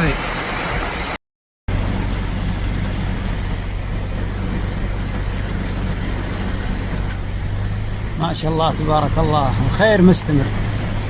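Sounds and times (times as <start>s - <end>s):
heavy rain falling: 0.0s - 11.0s
vehicle engine idling hum: 1.7s - 11.0s.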